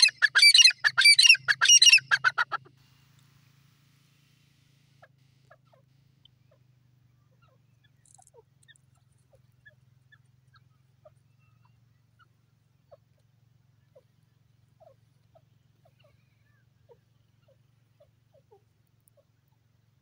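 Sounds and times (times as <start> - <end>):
francolins giving soft short calls: 0.0 - 20.0.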